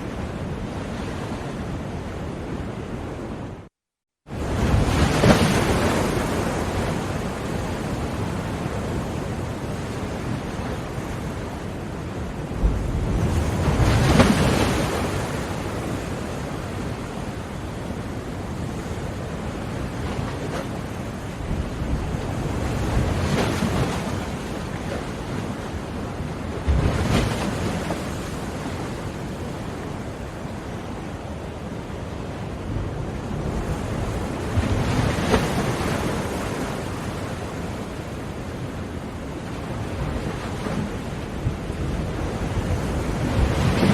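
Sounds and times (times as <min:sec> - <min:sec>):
ocean surf washing: 0:04.3 - 0:43.9.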